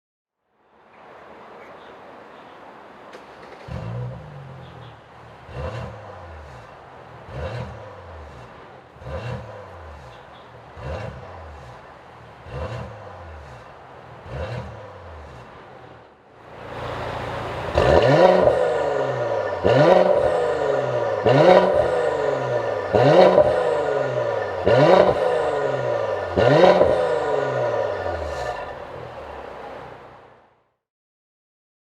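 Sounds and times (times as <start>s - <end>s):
car engine throttle blips: 3.0s - 30.5s.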